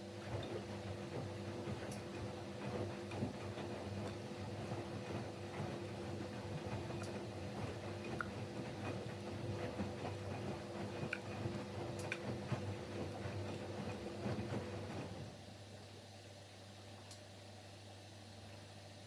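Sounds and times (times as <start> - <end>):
wet laundry churning: 0.0 - 15.5
washing machine motor hum: 0.0 - 15.8.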